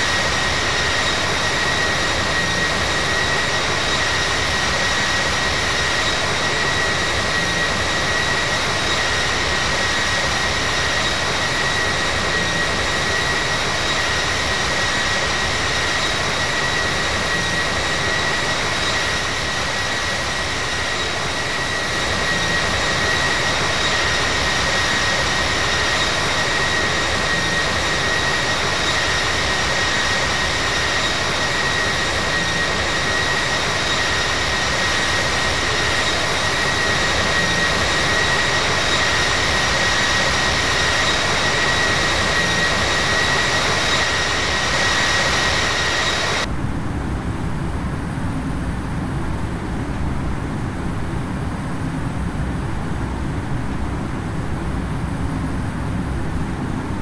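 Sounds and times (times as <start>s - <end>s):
jet engine high whine: 0.0s - 57.0s
jet engine roar: 0.0s - 57.0s.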